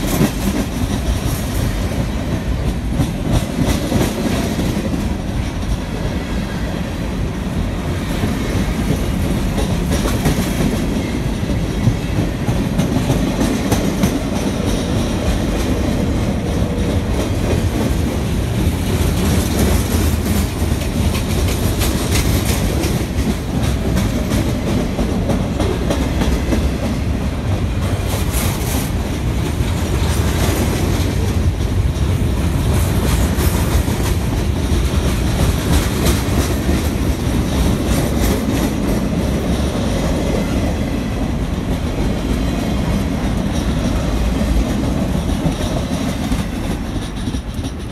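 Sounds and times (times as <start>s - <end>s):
wheels clacking over rail joints: 0.0s - 6.4s, 7.4s - 47.9s
rumble of train wheels on rail: 0.0s - 47.9s.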